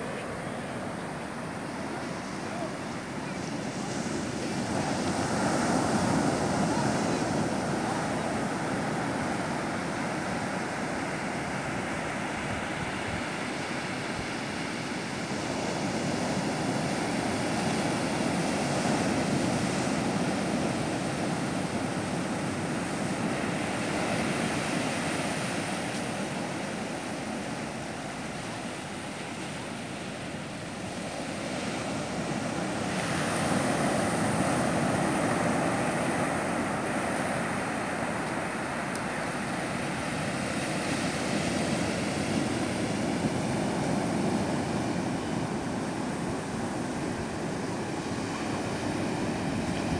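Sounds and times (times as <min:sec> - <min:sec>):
surf washing up a beach: 0:00.0 - 0:49.9.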